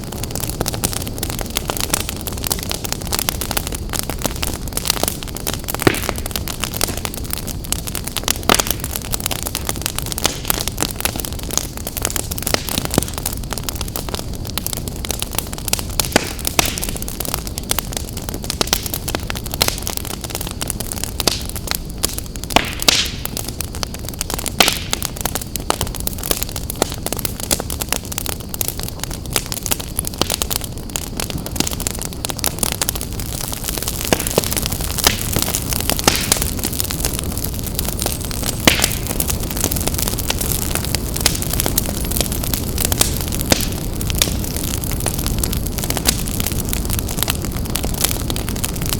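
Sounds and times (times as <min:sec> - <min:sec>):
low rush of flame: 0:00.0 - 0:48.9
wood fire crackling and popping: 0:00.0 - 0:48.9.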